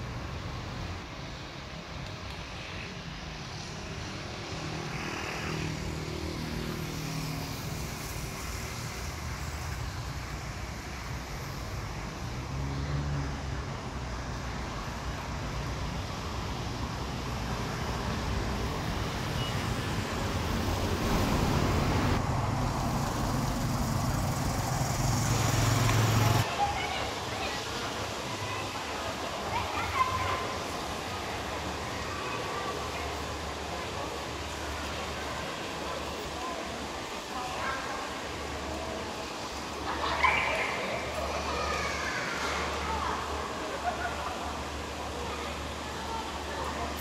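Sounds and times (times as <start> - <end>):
cars passing: 2.6 - 47.0.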